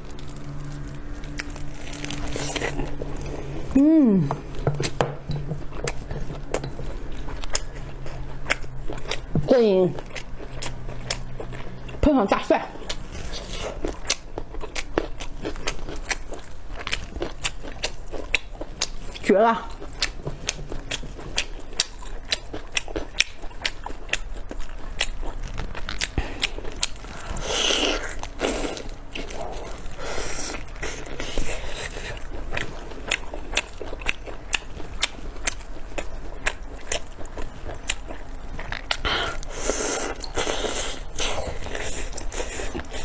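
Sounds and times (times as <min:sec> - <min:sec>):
person chewing soft food: 0:00.0 - 0:43.0.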